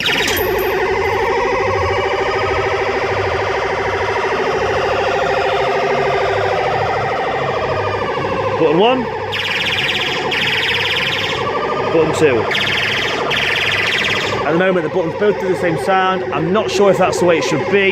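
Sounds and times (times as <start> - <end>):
warbling siren-like electronic tone: 0.0 - 17.9.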